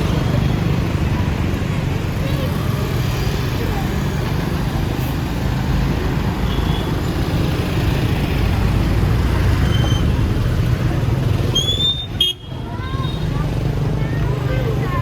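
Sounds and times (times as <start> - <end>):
passing road traffic rumble: 0.0 - 15.0.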